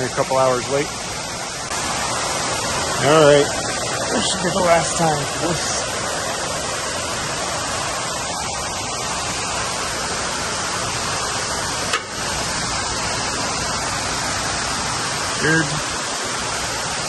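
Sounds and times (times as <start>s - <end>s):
rain on cooling tower: 0.0s - 17.0s
rushing falling water: 0.0s - 17.0s.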